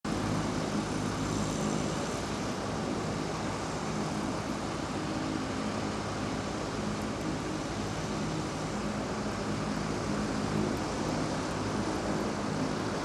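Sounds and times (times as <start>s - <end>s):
distant jet engines rushing: 0.1s - 13.0s.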